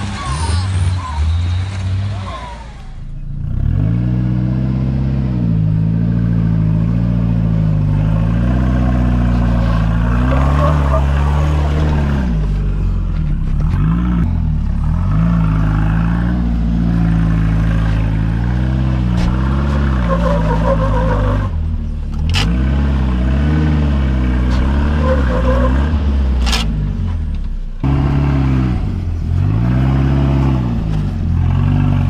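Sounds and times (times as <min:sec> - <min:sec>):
vehicle engine revving: 0:00.0 - 0:32.0.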